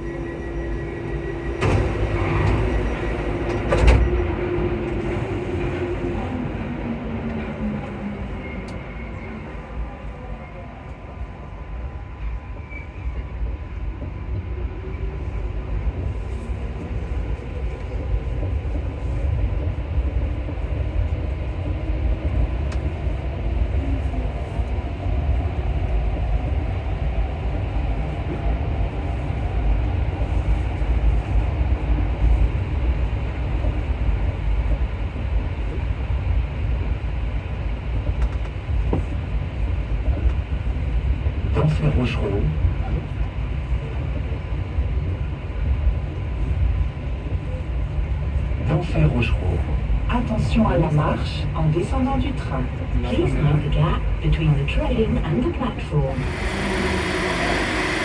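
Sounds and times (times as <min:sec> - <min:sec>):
metro train rumbling in tunnel: 0:00.0 - 0:58.0.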